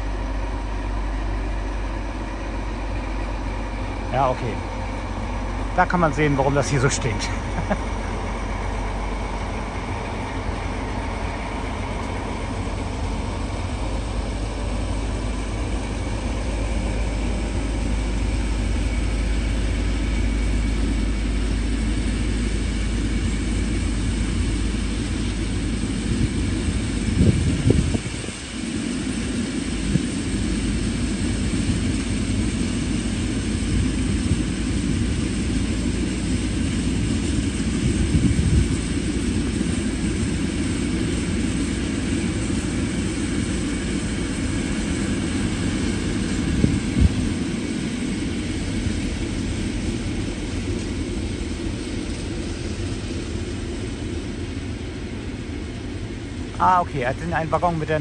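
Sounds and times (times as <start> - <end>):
diesel locomotive engines droning: 0.0 - 58.0.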